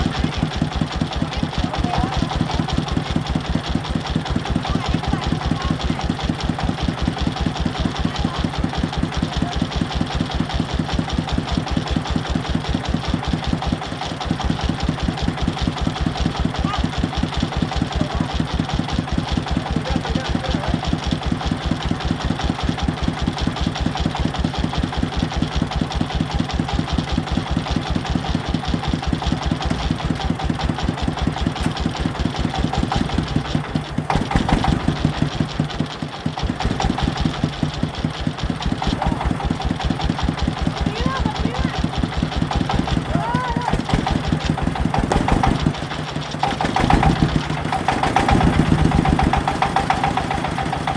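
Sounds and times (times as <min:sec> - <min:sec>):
farm vehicle engine idling: 0:00.0 - 0:50.9.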